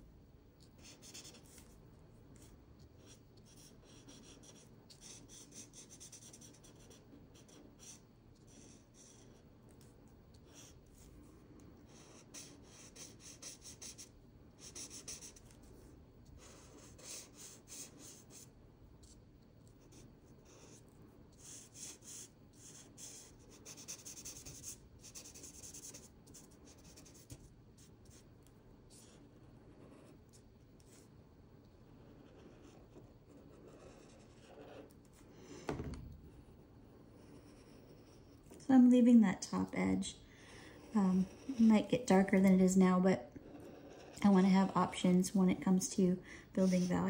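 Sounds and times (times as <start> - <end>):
marker scratching on paper: 0.6 - 31.1, 31.9 - 35.8, 37.1 - 38.6, 40.5 - 42.7, 43.4 - 45.2, 46.6 - 47.0.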